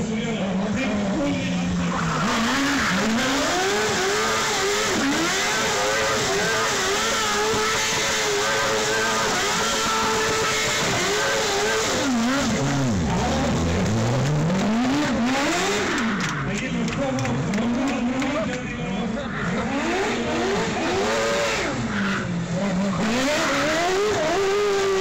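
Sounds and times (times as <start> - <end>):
tyres spinning on asphalt: 0.1 - 25.0
motorcycle engine revving hard: 0.6 - 16.3, 19.6 - 25.0.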